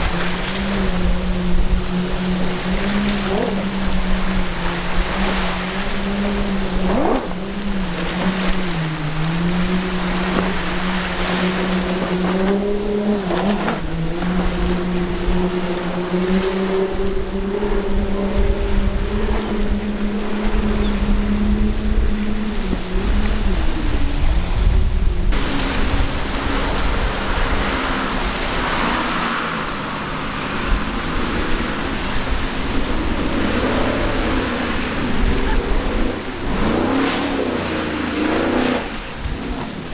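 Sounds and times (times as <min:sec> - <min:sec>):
passing boat: 0:00.0 - 0:39.9
rushing spray and waves: 0:00.0 - 0:39.9
speedboat engines running hard: 0:00.0 - 0:39.9.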